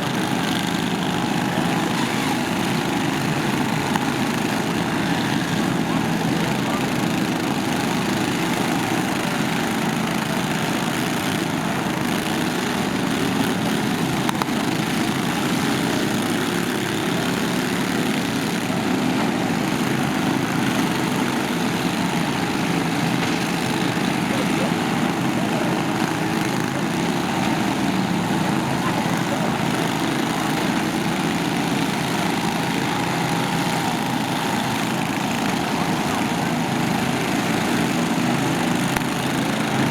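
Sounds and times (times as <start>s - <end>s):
lawn tractor engines running: 0.0s - 39.9s.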